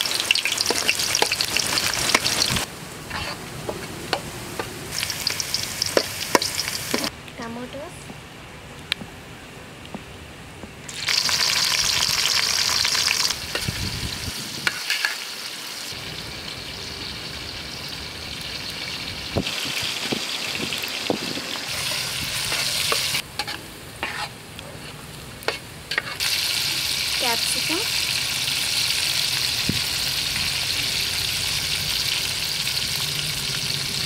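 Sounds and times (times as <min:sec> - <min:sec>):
vegetables sizzling in hot oil: 0:00.0 - 0:03.5, 0:04.1 - 0:07.1, 0:10.9 - 0:24.4, 0:25.2 - 0:34.0.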